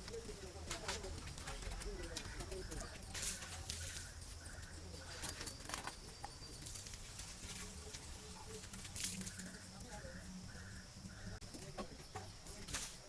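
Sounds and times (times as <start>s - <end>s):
faint patter: 0.0s - 13.0s.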